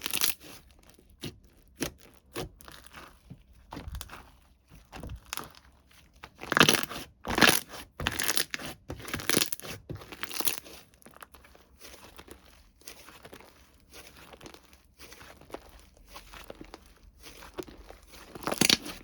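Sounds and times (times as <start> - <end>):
plastic packaging crinkling and tearing: 0.0 - 19.0.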